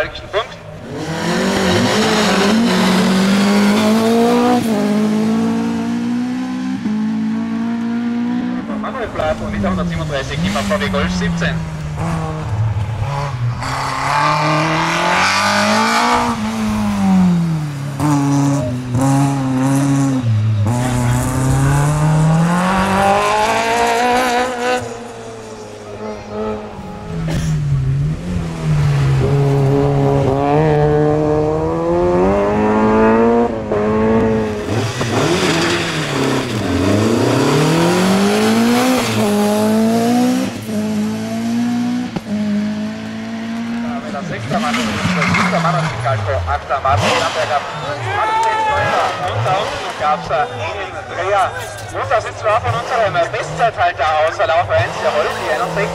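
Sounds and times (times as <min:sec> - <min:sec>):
race cars at full throttle: 0:00.0 - 0:55.9.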